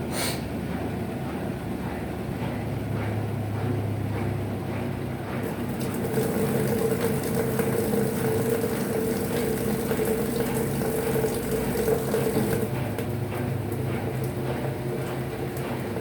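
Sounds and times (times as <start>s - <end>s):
washing machine hum: 0.0s - 16.0s.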